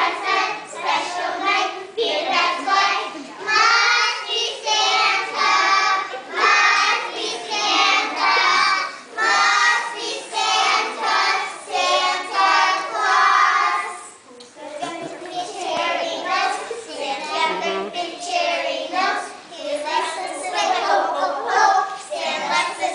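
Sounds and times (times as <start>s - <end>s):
young children singing: 0.0s - 22.9s.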